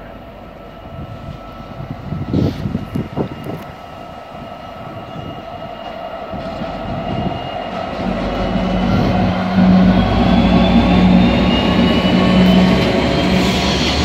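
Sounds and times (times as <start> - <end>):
freight train passing: 0.0 - 14.0
locomotive engine drone: 0.0 - 14.0.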